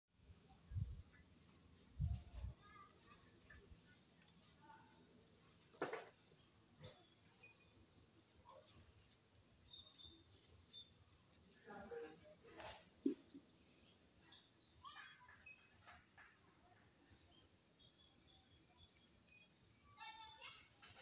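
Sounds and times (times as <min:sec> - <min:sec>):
crickets trilling: 0:00.2 - 0:21.0.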